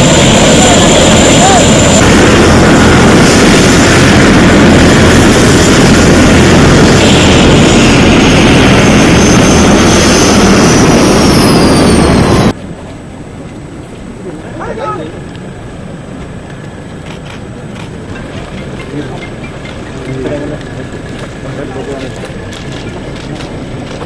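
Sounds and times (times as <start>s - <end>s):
helicopter rotor and turbine: 0.0s - 13.9s, 14.6s - 24.0s.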